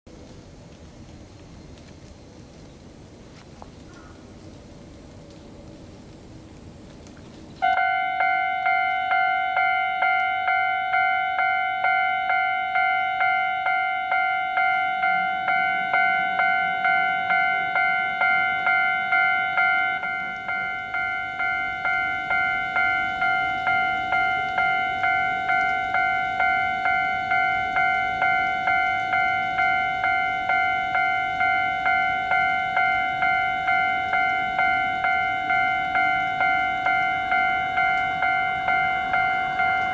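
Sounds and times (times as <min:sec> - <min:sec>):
level crossing warning bell ringing: 0:07.6 - 0:39.9.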